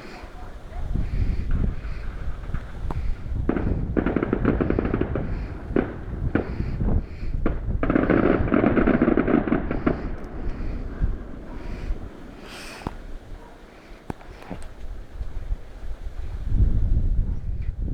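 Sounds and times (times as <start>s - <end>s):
firework bangs: 0.0s - 15.6s
firework crackling: 0.0s - 16.2s.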